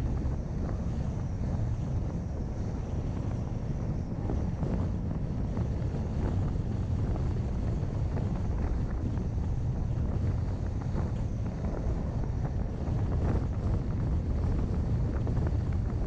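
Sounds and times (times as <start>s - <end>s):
road noise rumble: 0.0s - 16.0s
wind buffeting microphone: 0.0s - 16.0s.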